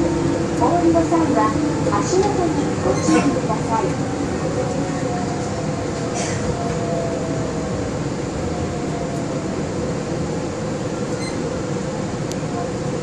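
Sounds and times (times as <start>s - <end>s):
faint train whine: 0.0s - 13.0s
monorail running noise: 0.0s - 13.0s.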